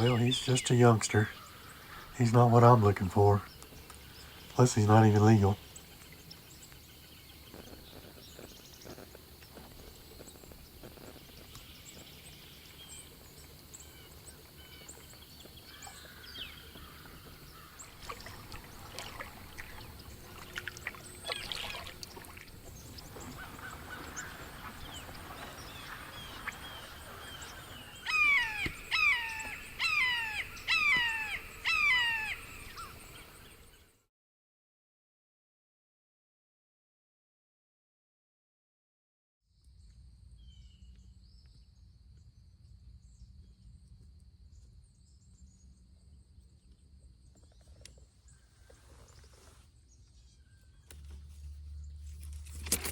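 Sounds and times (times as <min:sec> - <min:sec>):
faint chirps of small birds: 0:00.0 - 0:34.0, 0:39.5 - 0:52.9.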